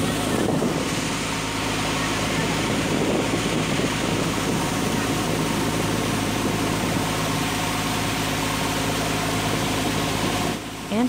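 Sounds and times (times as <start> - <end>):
boat engine humming: 0.0 - 11.0
rushing water: 0.0 - 11.0
wind: 0.0 - 11.0.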